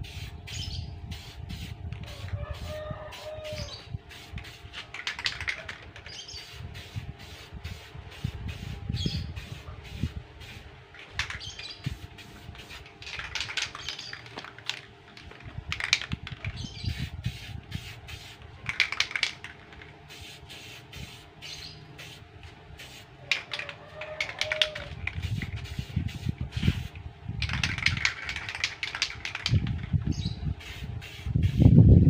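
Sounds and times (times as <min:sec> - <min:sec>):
spray paint can hissing: 0:00.0 - 0:31.8.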